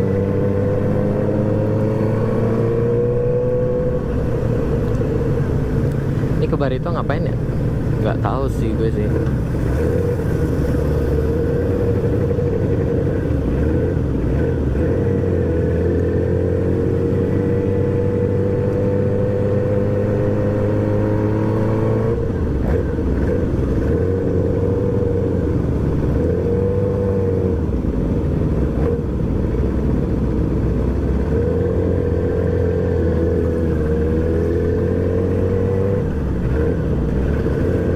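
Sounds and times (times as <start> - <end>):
motorcycle engine accelerating: 0.0 - 29.8, 30.7 - 37.9
low wind rumble: 0.0 - 37.9.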